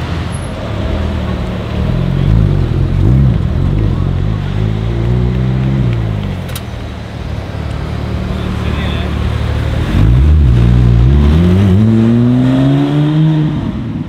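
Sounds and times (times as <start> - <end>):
car engine revving and accelerating: 0.1 - 6.4, 7.8 - 14.0.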